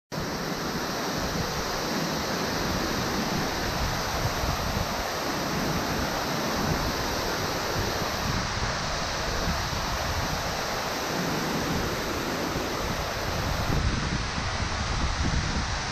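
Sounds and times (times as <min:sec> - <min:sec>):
waterfall rushing: 0:00.1 - 0:15.9.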